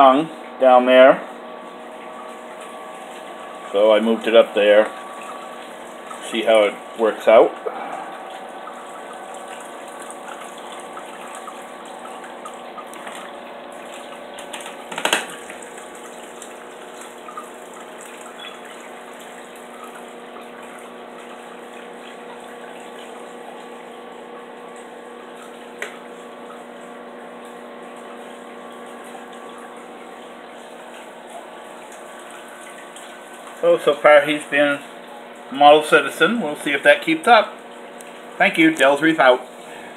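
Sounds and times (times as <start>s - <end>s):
circulation pumps humming: 0.0s - 39.9s
running water: 0.0s - 39.9s.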